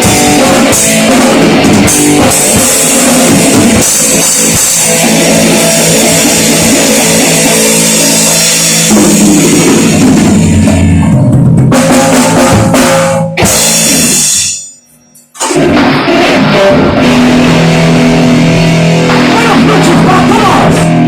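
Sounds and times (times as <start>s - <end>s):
pounding drum kit: 0.0s - 21.0s
rock band playing: 0.0s - 21.0s.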